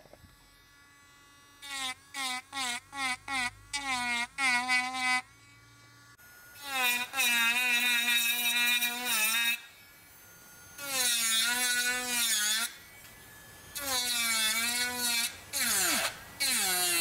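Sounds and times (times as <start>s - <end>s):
rotary tool whining into wood: 0.0s - 17.0s.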